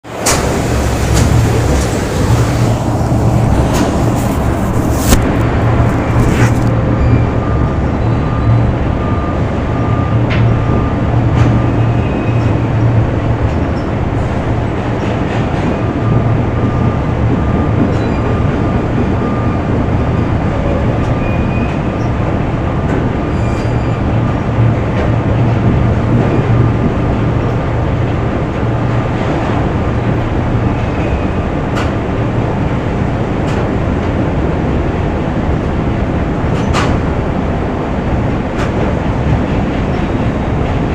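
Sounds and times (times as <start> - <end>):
factory machinery rumbling: 0.0 - 40.9.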